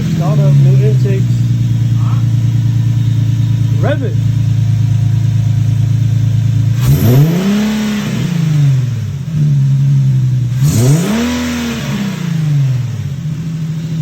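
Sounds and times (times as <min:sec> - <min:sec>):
car engine revving from idle: 0:00.0 - 0:14.0.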